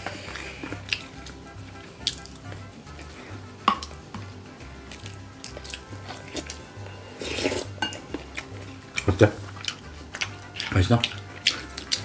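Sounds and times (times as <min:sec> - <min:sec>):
chewing: 0:00.0 - 0:03.2, 0:04.9 - 0:12.0
background music with steady beat: 0:00.0 - 0:12.0.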